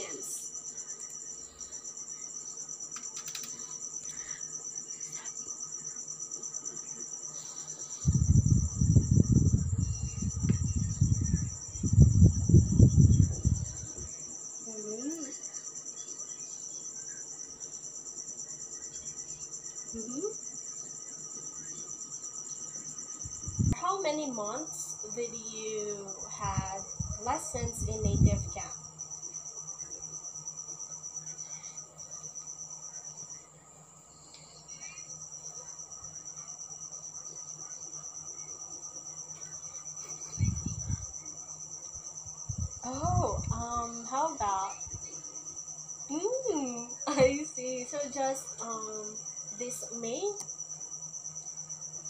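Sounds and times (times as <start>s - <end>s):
crickets trilling: 0.0s - 52.0s.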